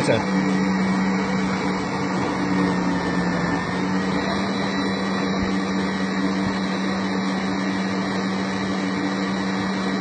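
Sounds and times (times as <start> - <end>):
food processor whirring: 0.0 - 10.0.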